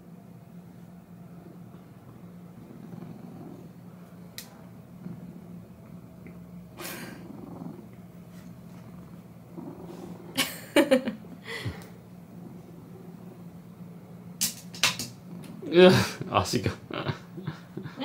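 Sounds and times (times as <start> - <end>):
cat purring: 0.8 - 14.4, 15.1 - 18.0.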